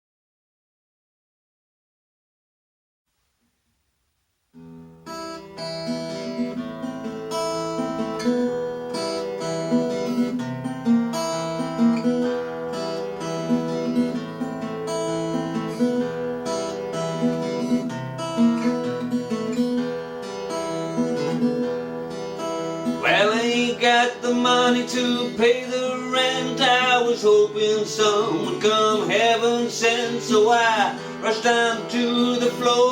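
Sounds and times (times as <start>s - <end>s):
acoustic guitar blues: 4.6s - 32.9s.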